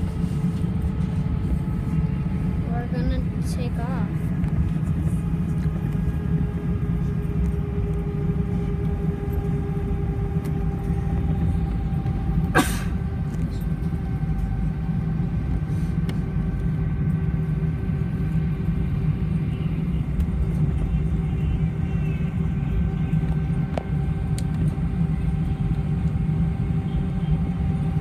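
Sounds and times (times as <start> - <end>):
jet engines low rumble and whine: 0.0 - 28.0.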